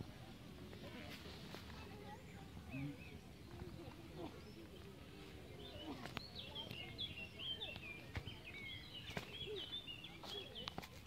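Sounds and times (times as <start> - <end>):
songbird chirping and warbling: 0.1 - 11.0.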